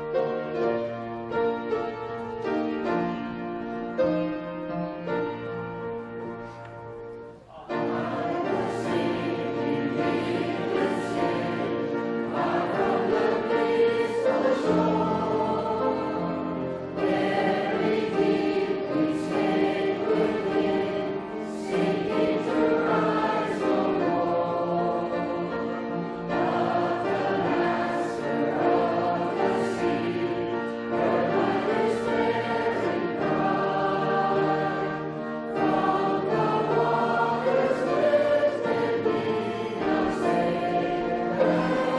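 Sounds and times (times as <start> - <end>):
group singing a hymn: 7.6 - 41.9.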